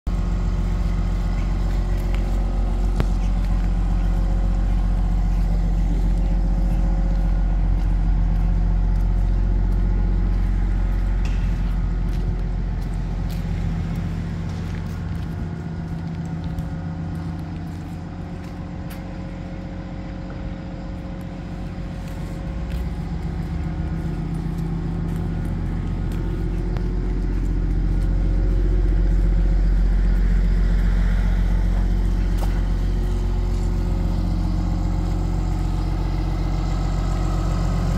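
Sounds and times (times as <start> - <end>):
vehicle engine idling: 0.0 - 37.9.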